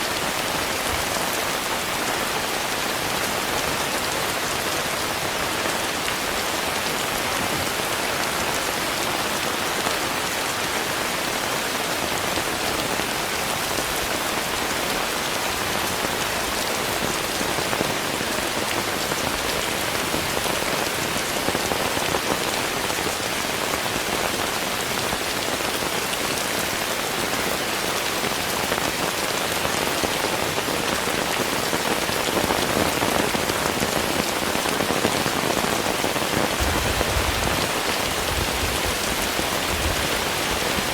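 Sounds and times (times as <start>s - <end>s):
rain patter: 0.0s - 40.9s.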